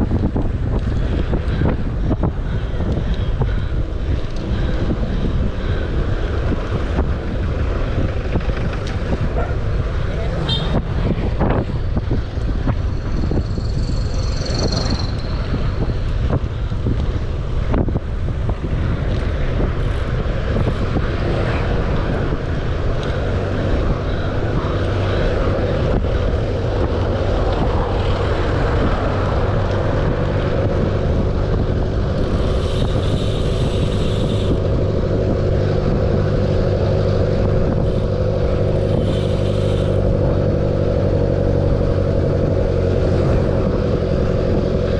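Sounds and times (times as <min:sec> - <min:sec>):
road noise rumble: 0:00.0 - 0:44.9
vehicle engine humming: 0:00.0 - 0:44.9
wind buffeting microphone: 0:00.0 - 0:44.9.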